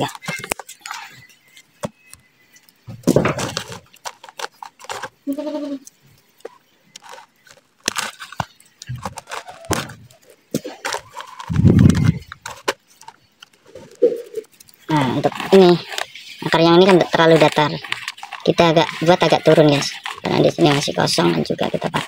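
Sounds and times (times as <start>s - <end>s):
soil crunching and rustling: 2.7s - 22.0s.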